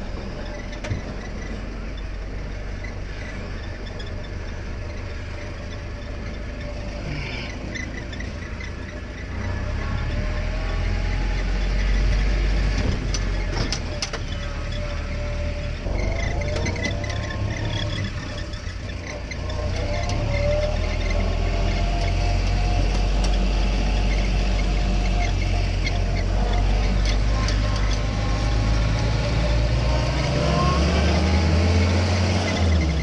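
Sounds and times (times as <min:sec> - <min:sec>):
jeep engine running: 0:00.0 - 0:33.0.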